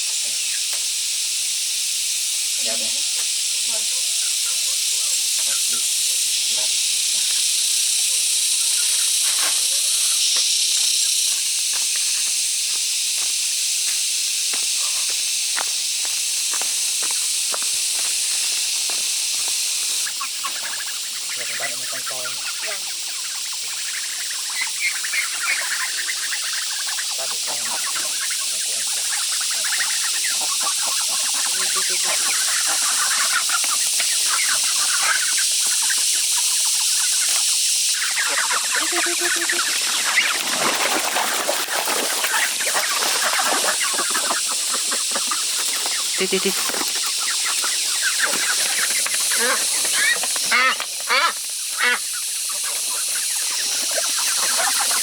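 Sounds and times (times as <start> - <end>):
high-pitched hiss: 0.0 - 55.0
ducks calling agitatedly: 3.6 - 7.5, 8.5 - 12.3, 14.7 - 15.2, 16.6 - 55.0.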